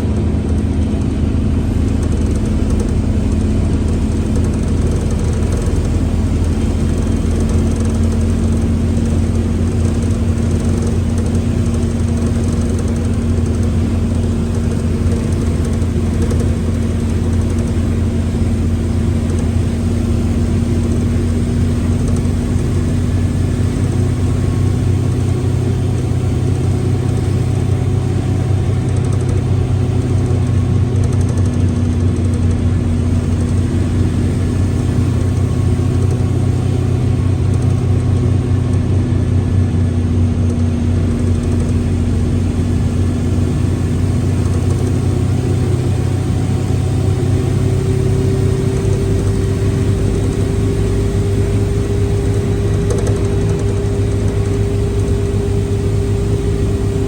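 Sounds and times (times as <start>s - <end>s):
bus engine low drone: 0.0s - 57.0s
gearbox whining: 0.0s - 57.0s.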